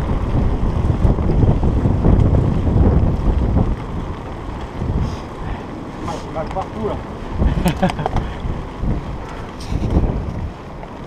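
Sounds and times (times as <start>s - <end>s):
bike rattling over cobblestones: 0.0s - 11.0s
wind buffeting microphone: 0.0s - 11.0s.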